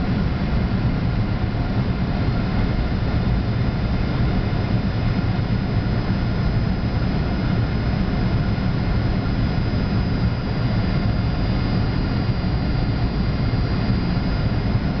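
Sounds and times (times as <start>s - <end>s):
faint steady whining tones: 0.0s - 15.0s
jet engines rumbling: 0.0s - 15.0s.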